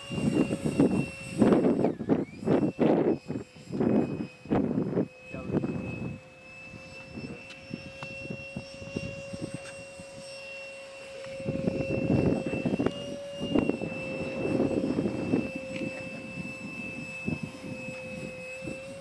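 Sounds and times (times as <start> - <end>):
jet engine whine overhead: 0.0 - 19.0.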